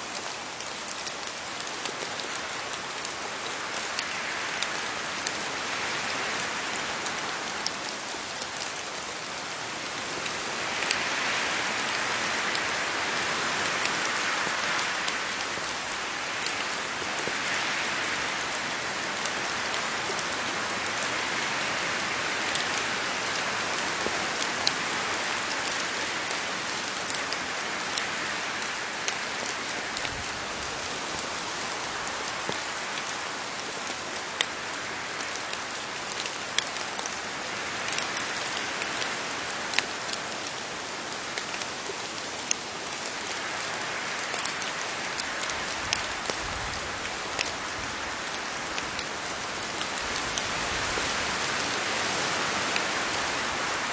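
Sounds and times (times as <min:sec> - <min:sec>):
rain falling on leaves: 0:00.0 - 0:53.9.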